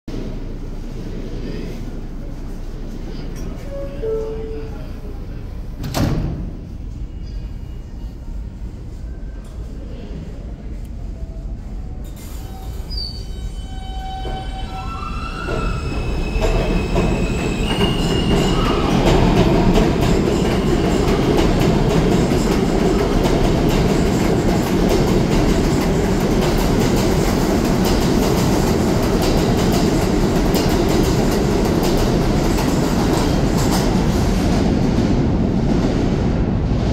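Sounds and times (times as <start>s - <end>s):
subway train whine: 0.1s - 36.9s
train rumble and wheel clatter: 0.1s - 36.9s.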